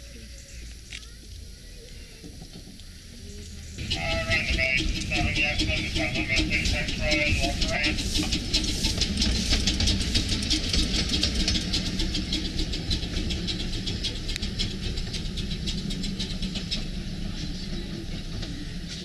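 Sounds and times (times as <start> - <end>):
steam locomotive clicking beats: 3.5 - 19.0.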